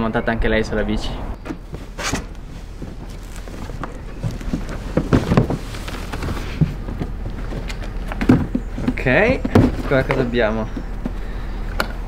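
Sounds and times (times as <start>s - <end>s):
cardboard and packing rustling: 1.4s - 11.6s.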